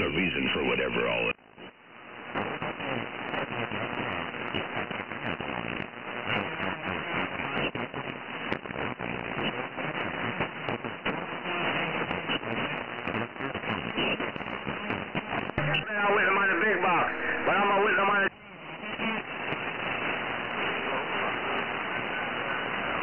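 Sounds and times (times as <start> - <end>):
crackling radio static: 0.0 - 23.0.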